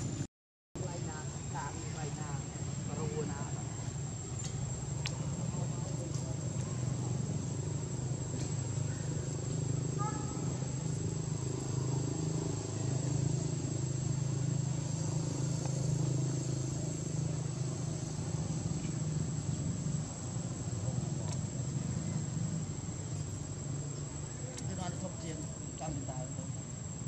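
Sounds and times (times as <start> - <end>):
low background murmur: 0.8 - 25.8
high-pitched insect drone: 0.8 - 27.0.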